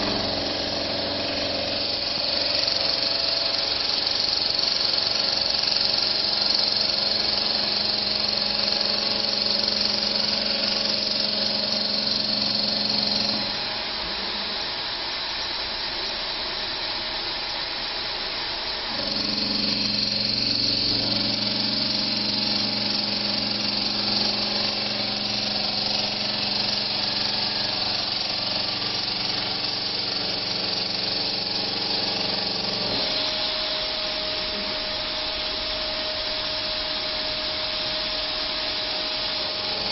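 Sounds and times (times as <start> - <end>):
saw spindle whine and hum: 0.0 - 39.9.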